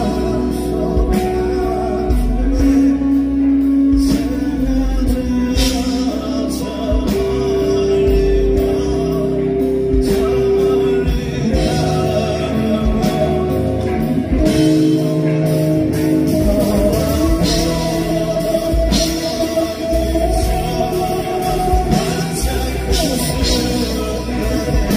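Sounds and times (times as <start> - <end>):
live band music: 0.0 - 24.9
person singing long held notes: 0.0 - 24.9.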